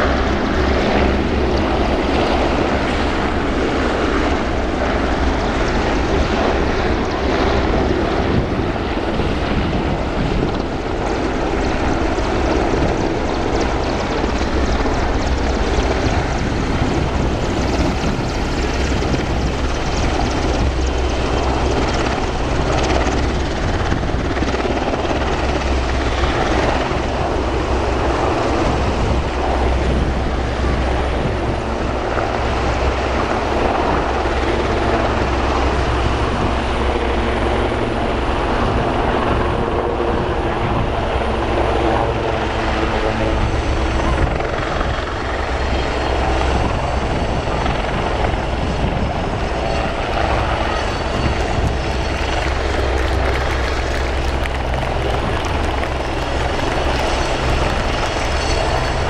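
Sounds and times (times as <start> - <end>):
helicopter rotor and turbine: 0.0 - 59.0.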